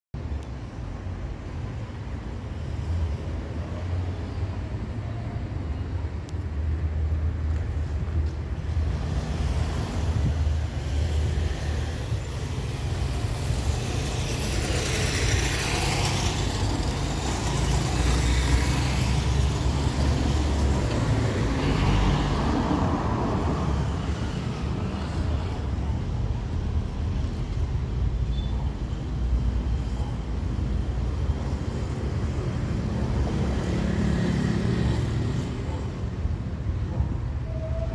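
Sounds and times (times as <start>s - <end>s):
traffic engine rumble: 0.2s - 37.9s
vehicles driving past: 0.2s - 37.9s.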